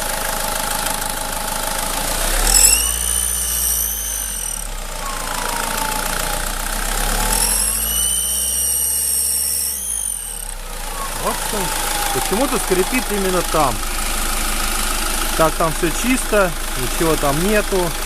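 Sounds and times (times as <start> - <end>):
diesel engine idling and revving: 0.0 - 18.0
high turbo whistle: 2.4 - 17.4.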